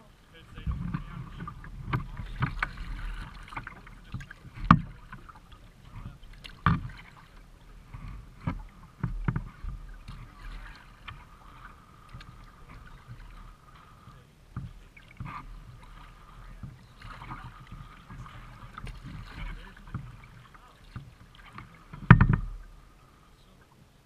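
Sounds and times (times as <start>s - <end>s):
paddle knocks and splashes: 0.0s - 23.1s
faint water noise: 0.0s - 24.0s.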